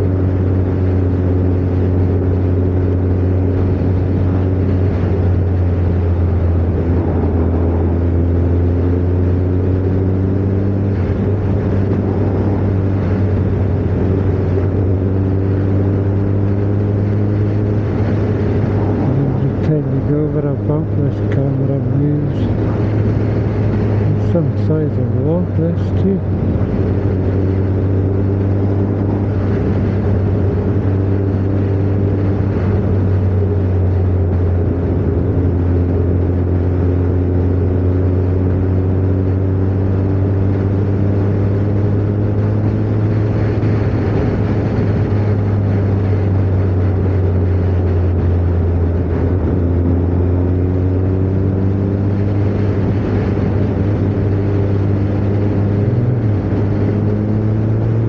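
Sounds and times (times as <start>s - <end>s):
motorcycle engine cruising: 0.0s - 58.0s
steady rushing noise: 0.0s - 58.0s.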